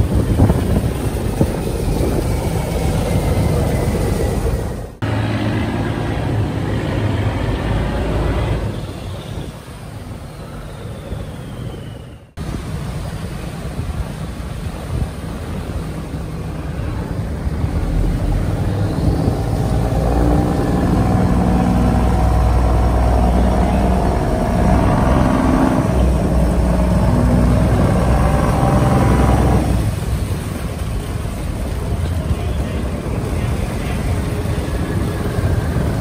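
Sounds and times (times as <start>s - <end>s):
boat diesel engine droning: 0.0s - 36.0s.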